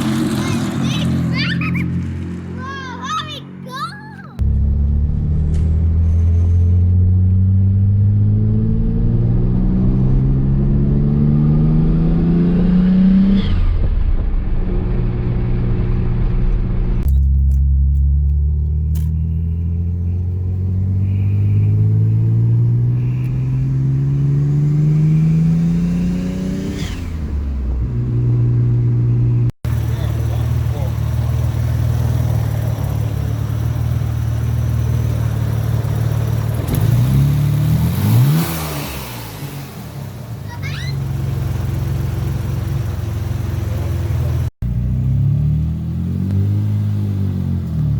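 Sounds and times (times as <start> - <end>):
car engine pulling with rising pitch: 4.4 - 47.9.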